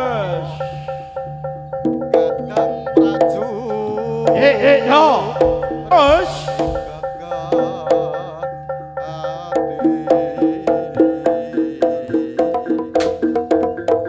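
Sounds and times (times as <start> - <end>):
drum or wood block strokes: 0.0 - 8.3, 9.9 - 14.0
metal mallet instruments melody: 0.0 - 14.0.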